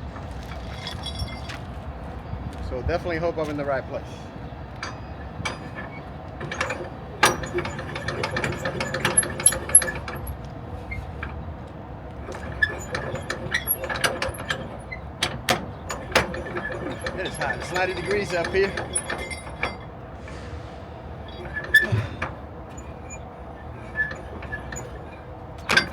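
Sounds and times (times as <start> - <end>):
strap winch ratcheting and clanking: 0.0 - 1.9, 4.6 - 25.9.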